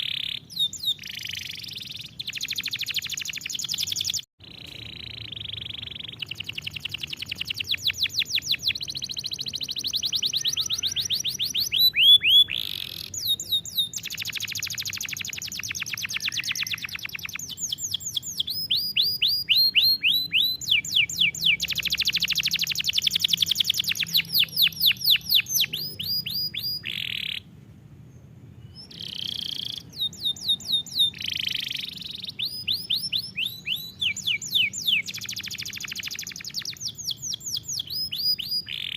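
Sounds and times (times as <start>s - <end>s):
canary singing trills: 0.0s - 27.5s, 28.1s - 38.9s.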